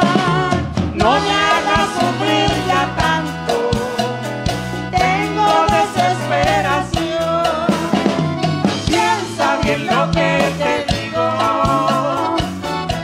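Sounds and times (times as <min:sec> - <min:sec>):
person singing: 0:00.0 - 0:04.3, 0:04.9 - 0:08.3, 0:08.9 - 0:13.0
drum kit beat: 0:00.0 - 0:13.0
electric bass: 0:00.0 - 0:13.0.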